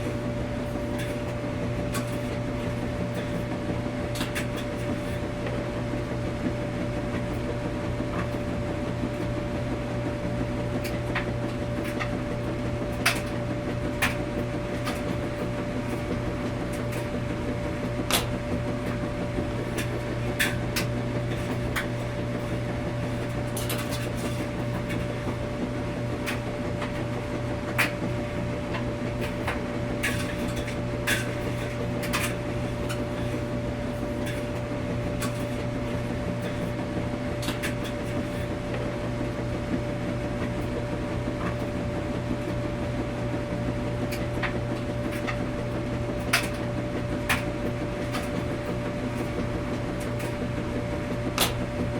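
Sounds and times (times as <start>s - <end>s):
washing machine humming: 0.0s - 51.9s.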